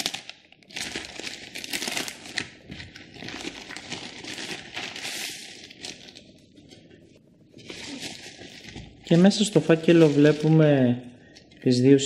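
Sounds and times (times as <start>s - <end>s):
plastic envelope crinkling: 0.0s - 11.7s.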